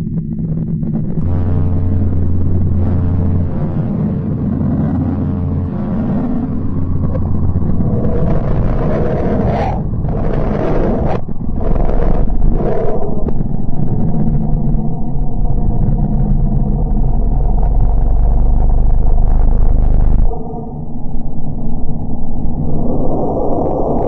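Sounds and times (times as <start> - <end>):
deep low hum with overtones: 0.0 - 24.0
rough rushing noise: 0.6 - 20.3.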